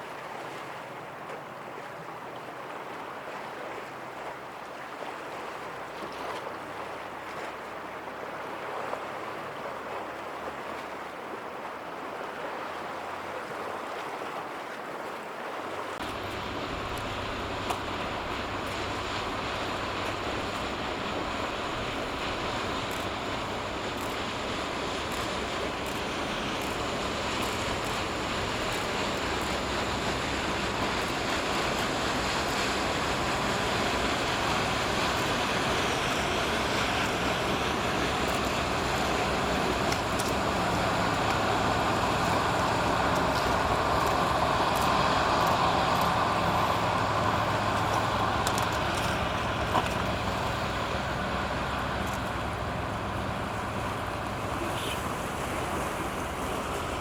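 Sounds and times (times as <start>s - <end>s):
boat engines humming: 0.0s - 57.0s
water washing along hull: 0.0s - 57.0s.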